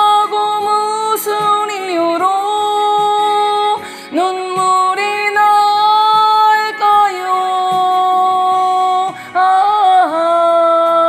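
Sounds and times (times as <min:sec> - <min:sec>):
soft musical accompaniment: 0:00.0 - 0:11.0
woman singing a slow ballad: 0:00.0 - 0:11.0.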